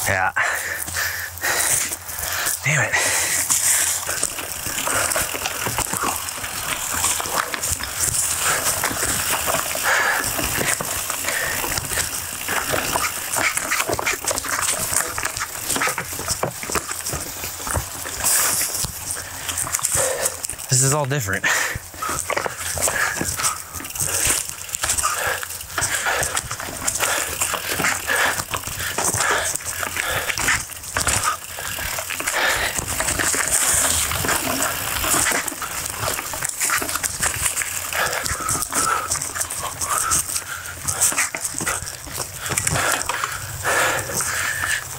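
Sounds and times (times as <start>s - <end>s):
bike rattling: 0.0s - 44.9s
tyres crunching leaves and stones: 0.5s - 44.9s.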